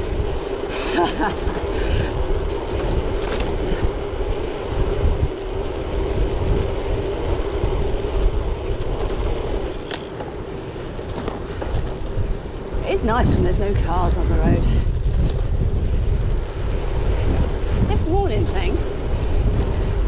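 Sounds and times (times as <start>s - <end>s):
constant hum: 0.0s - 20.0s
wind buffeting microphone: 0.0s - 20.0s.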